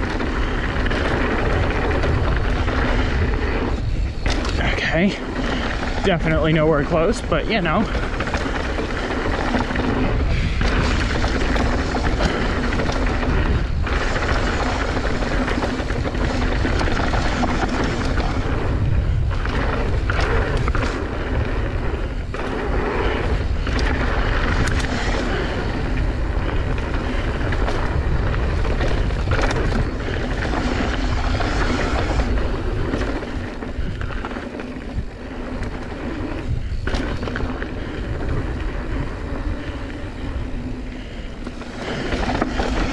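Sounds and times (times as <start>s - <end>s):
rumble and rattle on rough trail: 0.0s - 42.9s
wind buffeting microphone: 0.0s - 42.9s.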